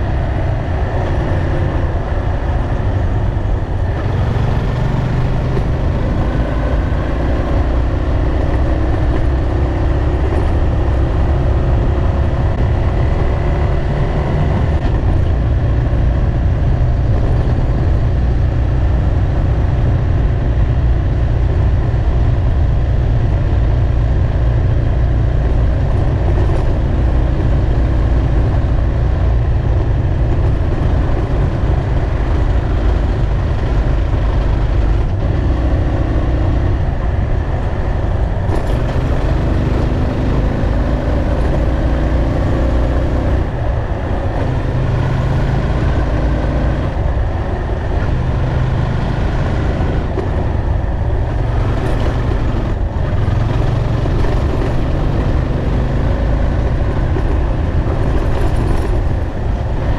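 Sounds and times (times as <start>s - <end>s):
motorcycle engine running: 0.0s - 59.9s
wind and road noise rumble: 0.0s - 59.9s.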